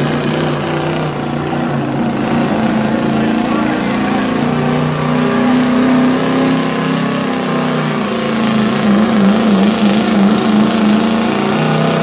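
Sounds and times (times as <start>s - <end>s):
diesel engine at high revs: 0.0s - 12.0s.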